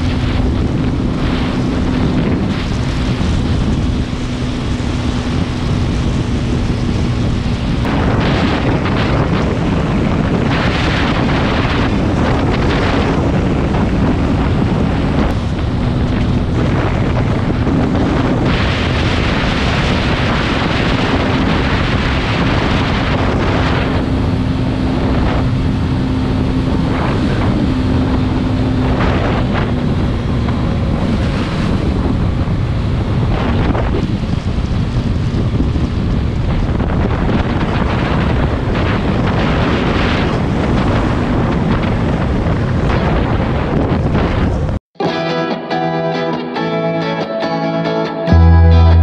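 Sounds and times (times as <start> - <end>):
motorcycle engine droning: 0.0 - 43.7, 48.3 - 49.0
wind buffeting on helmet: 0.0 - 44.8.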